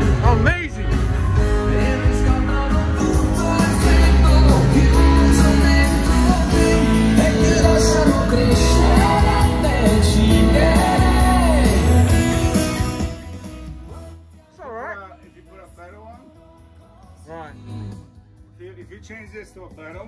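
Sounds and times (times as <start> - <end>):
song with heavy bass over speakers: 0.0 - 18.6.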